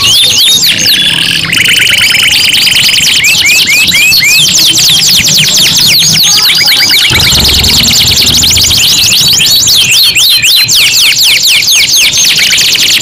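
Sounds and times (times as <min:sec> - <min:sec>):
canaries singing: 0:00.0 - 0:13.0.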